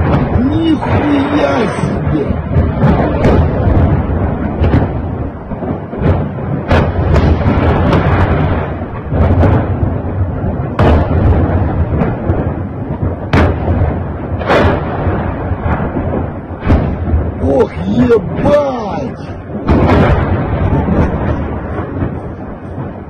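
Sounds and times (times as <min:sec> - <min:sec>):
continuous low rumble: 0:00.0 - 0:23.0
distant explosions: 0:00.0 - 0:23.0
fire cracking sharply: 0:00.0 - 0:23.0.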